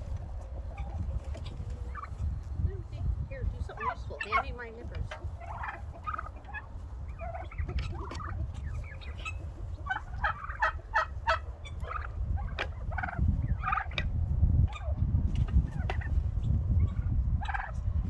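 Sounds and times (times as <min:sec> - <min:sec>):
turkeys gobbling: 0:00.2 - 0:02.4, 0:03.6 - 0:14.1, 0:14.7 - 0:16.2, 0:16.8 - 0:17.8.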